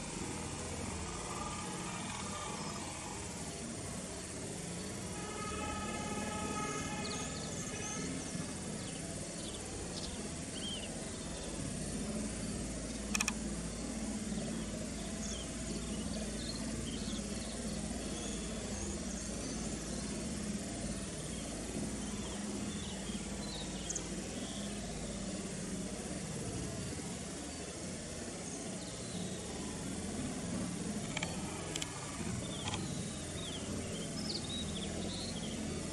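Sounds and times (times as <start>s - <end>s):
background hiss with low hum: 0.0s - 35.9s.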